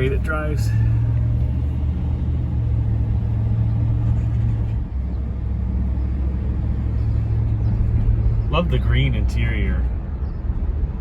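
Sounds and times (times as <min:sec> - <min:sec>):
car engine rumbling: 0:00.0 - 0:11.0
road noise: 0:00.0 - 0:11.0.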